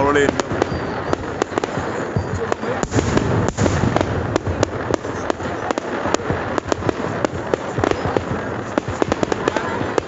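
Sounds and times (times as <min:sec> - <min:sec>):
continuous rumble of fireworks: 0:00.0 - 0:10.0
firework shells bursting: 0:00.0 - 0:10.0.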